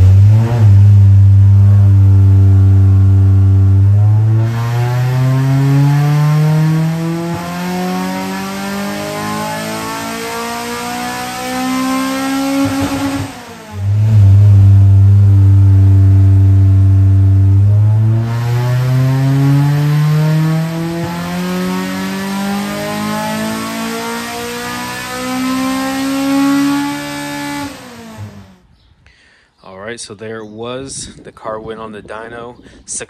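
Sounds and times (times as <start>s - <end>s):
car engine accelerating: 0.0s - 28.7s.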